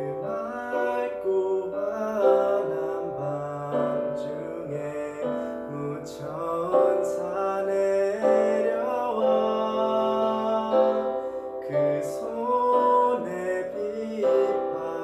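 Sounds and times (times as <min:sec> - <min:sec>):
piano backing track: 0:00.0 - 0:15.0
voices singing hymns: 0:00.0 - 0:15.0.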